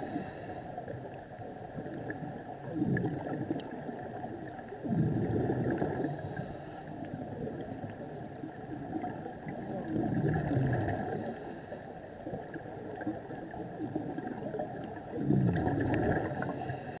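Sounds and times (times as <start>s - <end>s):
underwater regulator bubbles gurgling: 0.0s - 17.0s.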